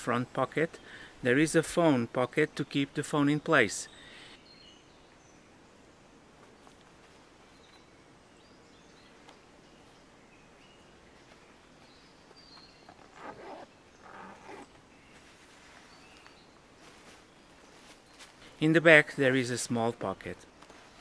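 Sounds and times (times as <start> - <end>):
faint forest ambience: 0.0 - 21.0.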